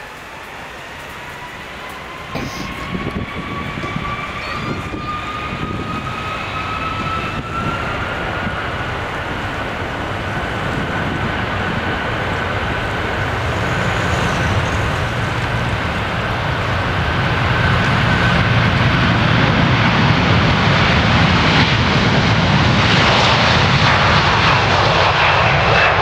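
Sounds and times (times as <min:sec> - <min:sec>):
jet engines spooling up: 0:00.0 - 0:26.0.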